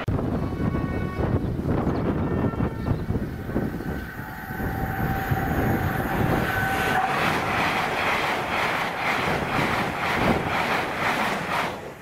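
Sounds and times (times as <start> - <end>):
train whine: 0.1 - 12.0
train coaches rushing past: 1.5 - 12.0.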